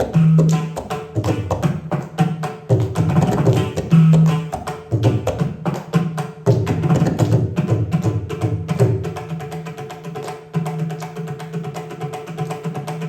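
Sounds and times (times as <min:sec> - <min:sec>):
hand drums played rapidly: 0:00.0 - 0:13.0.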